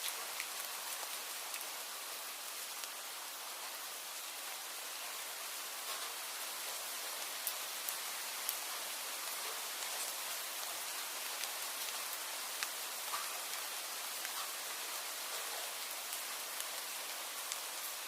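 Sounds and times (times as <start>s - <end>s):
rain hiss: 0.0s - 18.0s
raindrops ticking on a surface: 0.0s - 18.0s.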